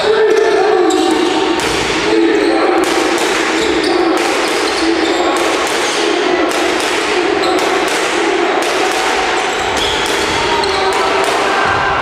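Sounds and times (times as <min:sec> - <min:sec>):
basketball bouncing on wooden court: 0:00.0 - 0:11.8
din of voices: 0:00.0 - 0:12.0.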